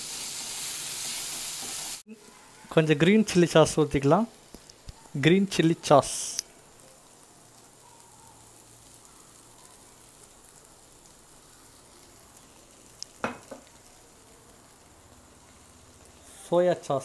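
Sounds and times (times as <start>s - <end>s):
vegetables sizzling in a frying pan: 0.0s - 2.3s, 2.9s - 17.0s.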